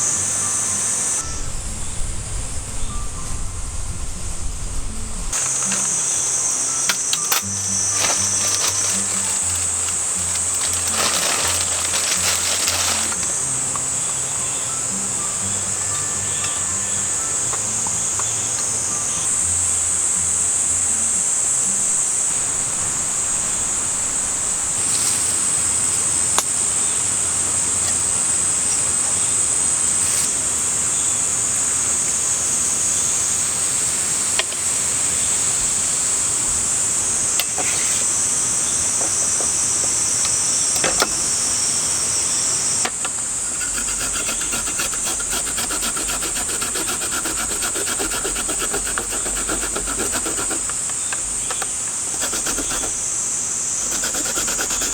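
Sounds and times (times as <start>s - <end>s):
cicadas singing: 0.0s - 54.9s.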